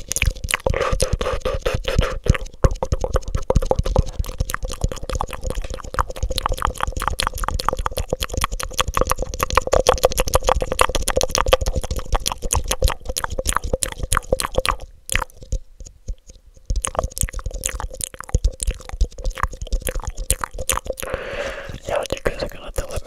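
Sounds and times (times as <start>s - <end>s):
wet mouth clicks and smacks: 0.0s - 23.0s.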